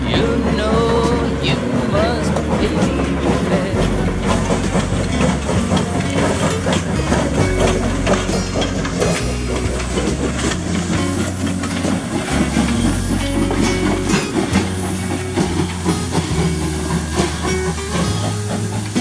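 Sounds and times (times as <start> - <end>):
instrumental song music: 0.0 - 19.0
train wheels clattering on rails: 0.0 - 19.0.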